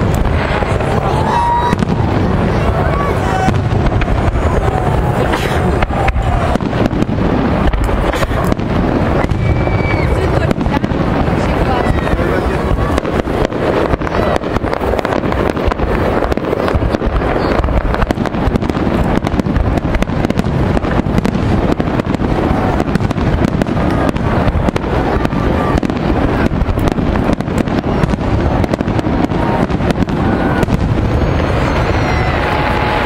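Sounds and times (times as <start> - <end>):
firework shells crackling bangs: 0.0 - 33.0.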